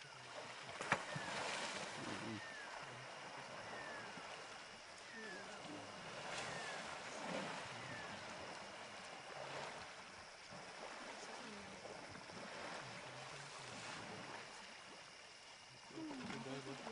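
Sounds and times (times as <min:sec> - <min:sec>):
elephants splashing in water: 0:00.0 - 0:16.9.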